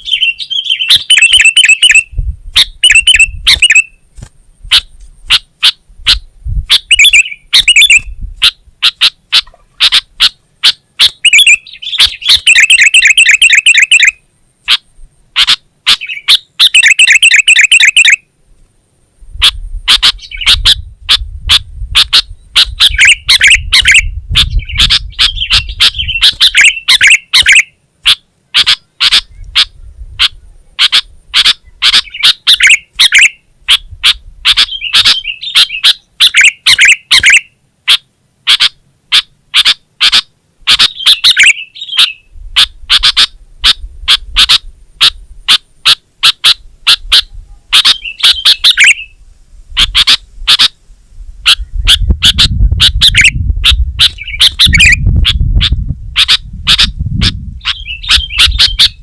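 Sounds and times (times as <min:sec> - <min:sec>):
bird chirping and trilling: 0:00.0 - 0:18.3, 0:19.3 - 0:49.2, 0:49.8 - 0:50.8, 0:51.4 - 0:59.0.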